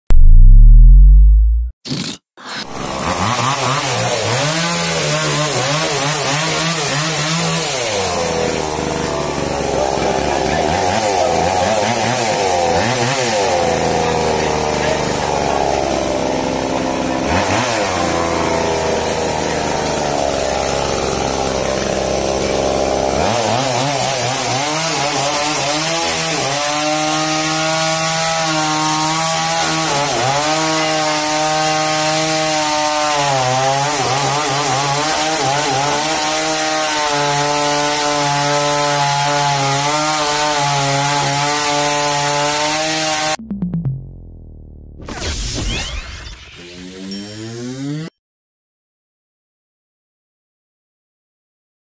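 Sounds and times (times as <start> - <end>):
chainsaw cutting wood: 1.8 - 43.4.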